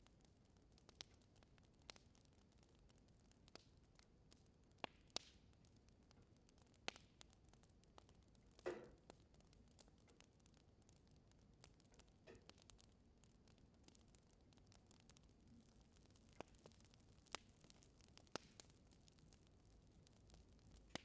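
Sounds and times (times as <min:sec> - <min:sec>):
faint steady hiss: 0:00.0 - 0:21.0
wood fire crackling: 0:00.0 - 0:21.0.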